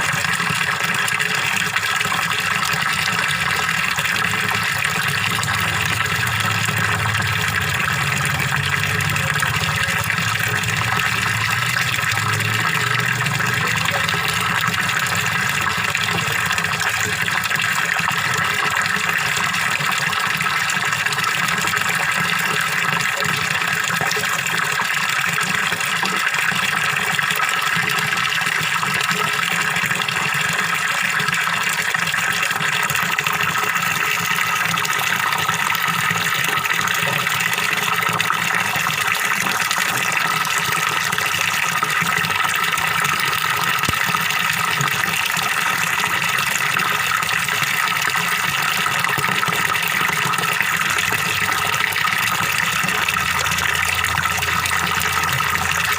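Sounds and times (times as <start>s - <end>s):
waterfall pouring into pond: 0.0s - 55.9s.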